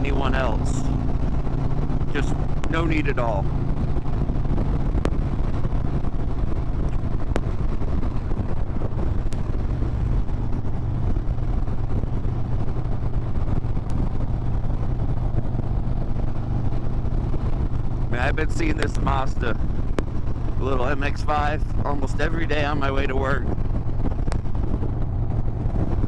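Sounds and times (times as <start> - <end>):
motorcycle engine cruising: 0.0 - 26.0
wind buffeting microphone: 0.0 - 26.0.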